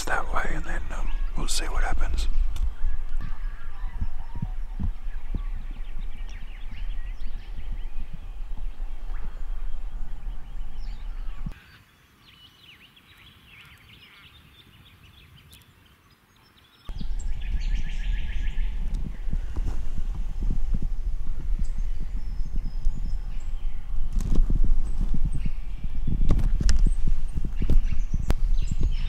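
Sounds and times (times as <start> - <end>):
wind buffeting microphone: 0.0 - 11.6, 16.9 - 29.0
birds chirping and calling: 0.0 - 29.0.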